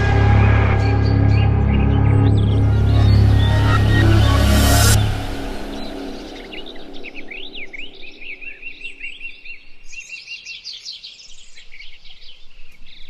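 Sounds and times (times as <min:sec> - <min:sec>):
songbirds singing and chirping: 0:00.0 - 0:13.0.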